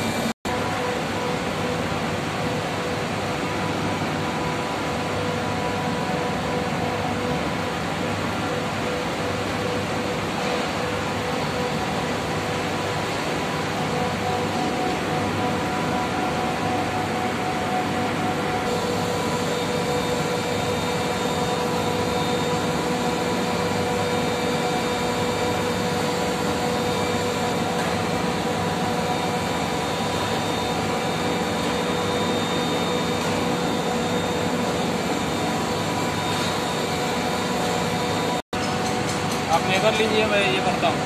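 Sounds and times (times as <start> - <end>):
chiller fan and machine hum: 0.0 - 41.0.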